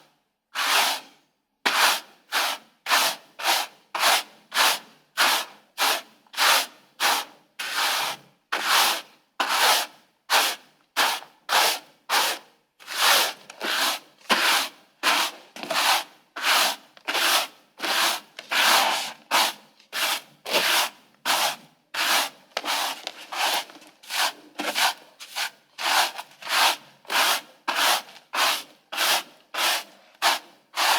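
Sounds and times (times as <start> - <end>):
broom sweeping a floor: 0.6 - 30.9.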